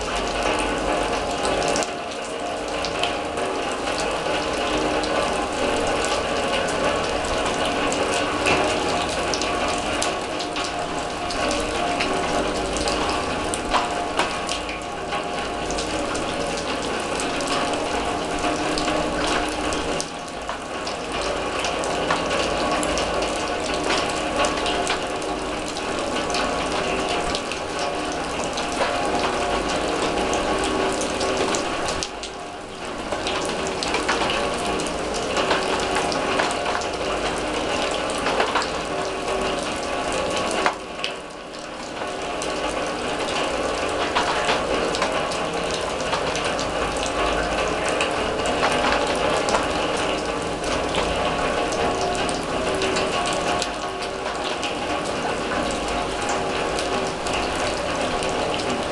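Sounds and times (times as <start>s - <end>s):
rain tapping on steel drum: 0.0s - 58.9s
rainfall: 0.0s - 58.9s.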